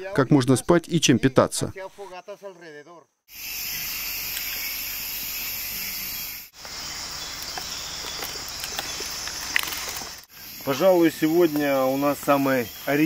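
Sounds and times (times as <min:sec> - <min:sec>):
insects trilling: 0:01.8 - 0:13.0.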